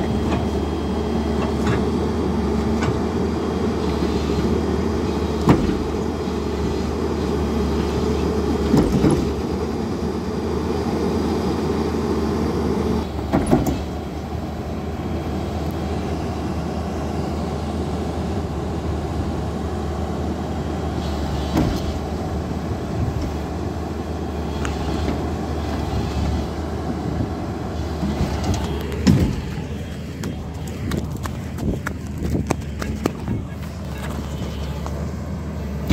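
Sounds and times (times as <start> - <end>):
excavator diesel engine: 0.0 - 35.9.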